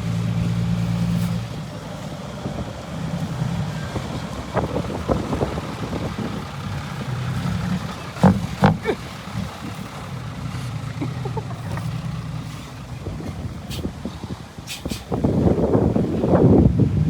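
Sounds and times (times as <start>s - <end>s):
truck engine with loud exhaust: 0.0s - 17.0s.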